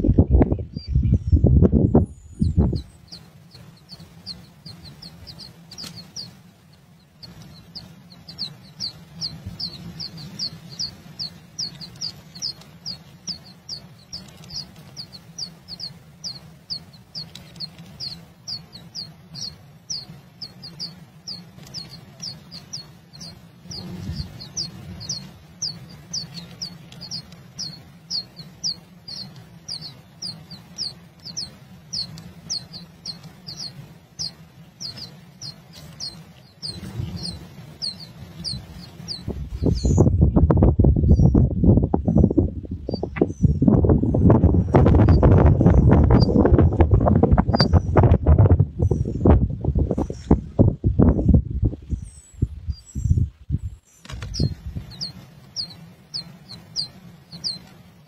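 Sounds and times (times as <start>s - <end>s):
low hum: 0.0s - 58.0s
nestlings chirping: 0.4s - 58.0s.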